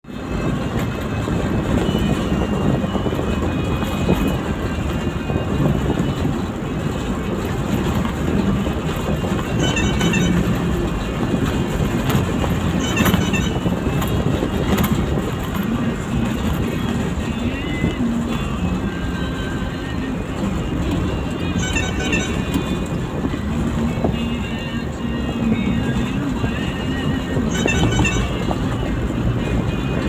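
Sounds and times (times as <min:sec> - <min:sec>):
vehicle road and engine rumble: 0:00.0 - 0:30.0.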